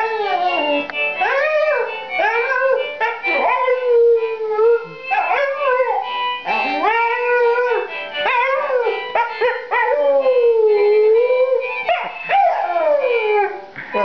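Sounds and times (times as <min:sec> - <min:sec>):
dog howling: 0:00.0 - 0:13.6.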